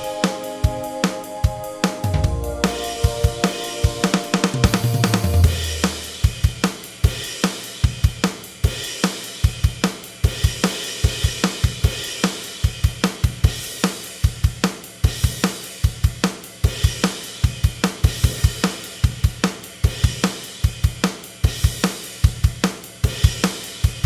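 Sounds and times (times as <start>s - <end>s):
drum kit rock beat: 0.0s - 24.0s.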